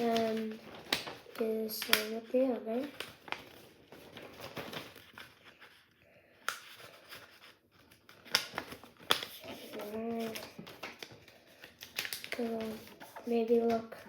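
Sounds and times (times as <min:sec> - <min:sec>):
paper being folded and creased: 0:00.0 - 0:14.0.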